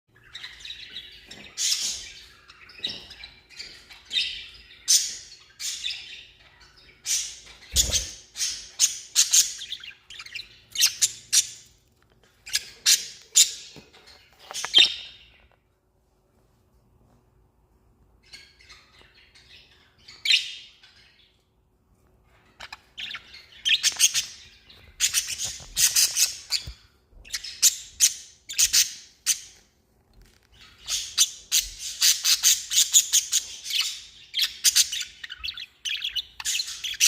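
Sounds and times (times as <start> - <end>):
budgerigars chirping and squawking: 0.1 - 15.5, 18.2 - 21.4, 22.2 - 29.8, 30.5 - 37.0.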